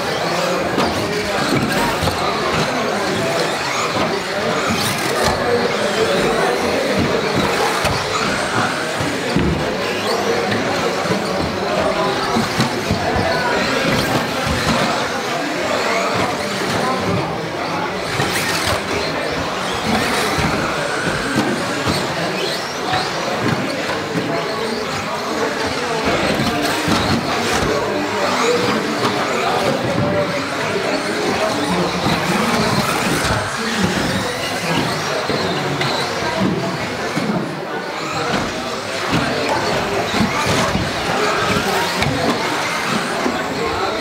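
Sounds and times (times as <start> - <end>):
electric motors whining: 0.0 - 44.0
toy cars knocking: 0.0 - 44.0.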